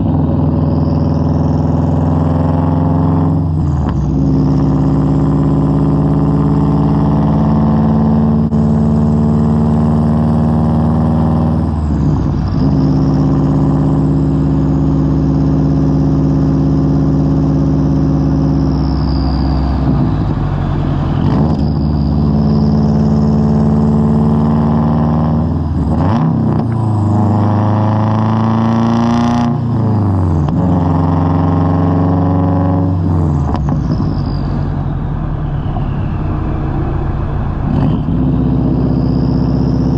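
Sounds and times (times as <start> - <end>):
car engine while driving: 0.0 - 39.9.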